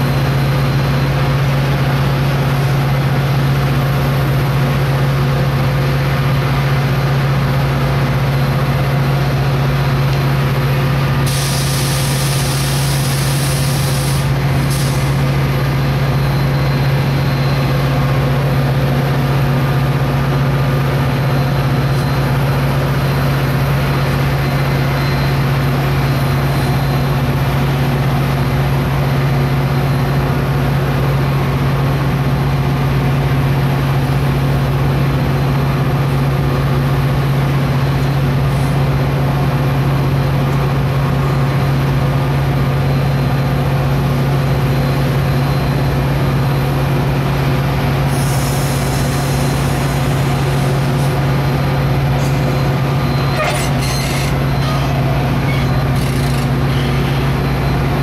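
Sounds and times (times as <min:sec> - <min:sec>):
train engine droning: 0:00.0 - 0:58.0.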